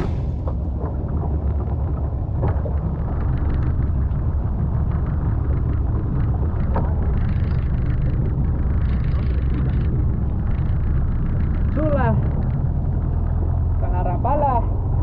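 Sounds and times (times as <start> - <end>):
boat motor rumbling: 0.0 - 15.0.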